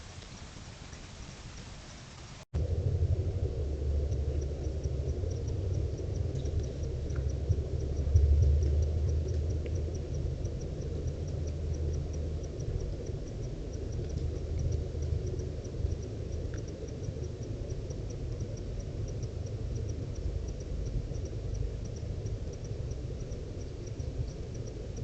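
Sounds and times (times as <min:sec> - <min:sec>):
steady low rumble: 0:02.5 - 0:25.0.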